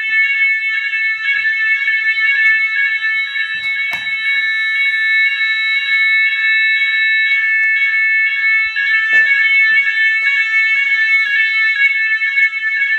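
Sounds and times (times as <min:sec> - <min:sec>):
fire alarm sounders: 0:00.0 - 0:12.9.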